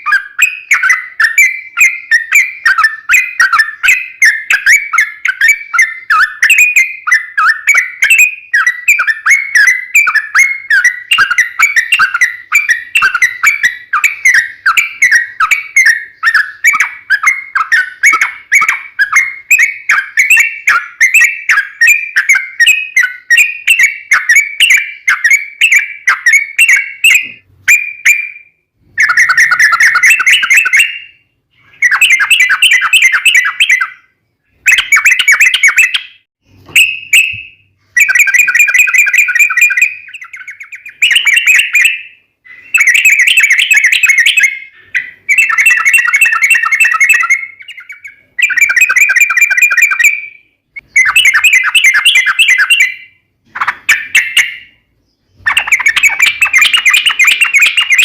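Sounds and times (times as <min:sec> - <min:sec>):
bird singing with rolling trills: 0:00.0 - 0:58.0.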